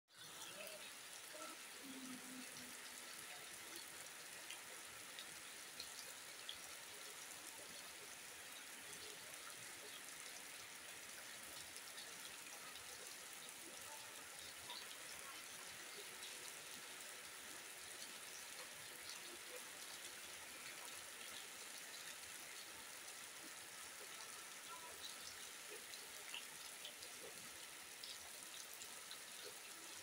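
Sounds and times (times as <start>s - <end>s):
steady rain hiss: 0.2s - 30.0s.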